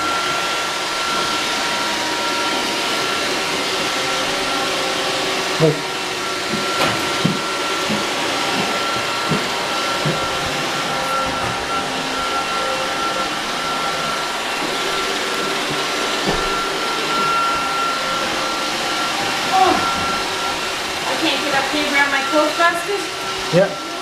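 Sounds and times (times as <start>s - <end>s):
robot vacuum whirring: 0.0s - 24.0s.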